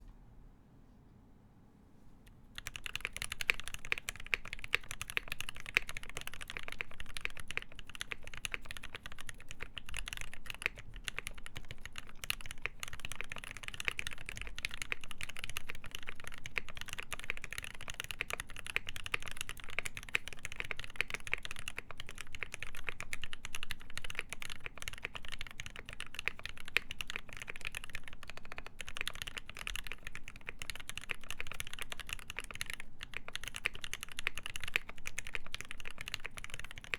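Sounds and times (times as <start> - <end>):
fast mechanical keyboard typing: 2.6 - 36.9.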